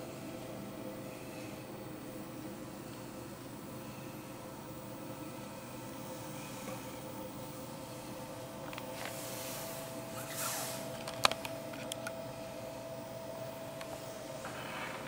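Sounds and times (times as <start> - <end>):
faint high whine: 0.0 - 15.0
low room hum: 0.0 - 15.0.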